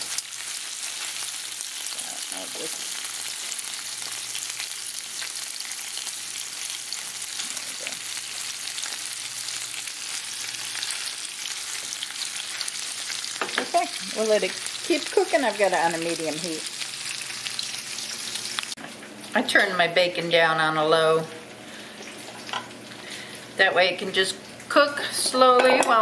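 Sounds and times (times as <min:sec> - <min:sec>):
bacon sizzling in a frying pan: 0:00.0 - 0:26.0.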